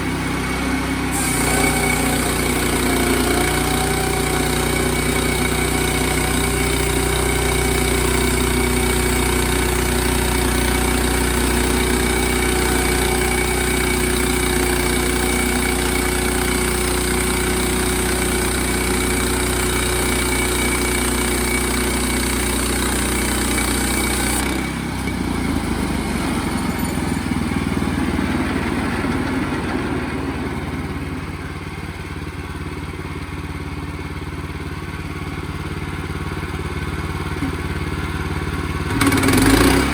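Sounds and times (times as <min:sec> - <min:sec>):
gas engine running under load: 0:00.0 - 0:39.9.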